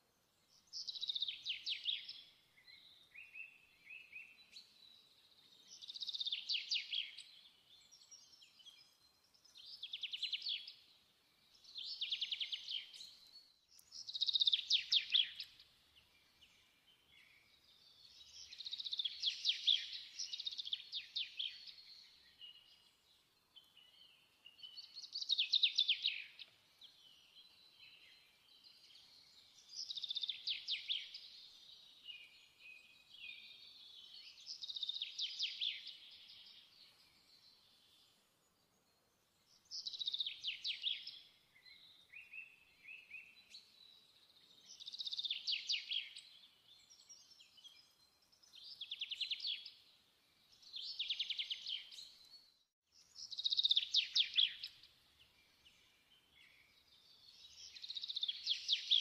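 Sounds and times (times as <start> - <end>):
faint bird chirps: 0.0 - 59.0
songbird singing: 0.0 - 59.0.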